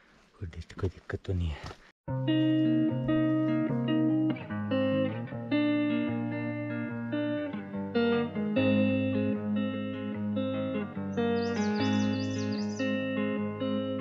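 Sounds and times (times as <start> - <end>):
instrumental background music: 2.1 - 14.0.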